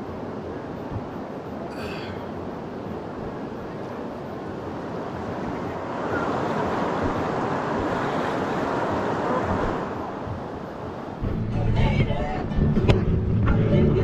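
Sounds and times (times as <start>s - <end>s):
rushing river rapids: 0.0s - 12.5s.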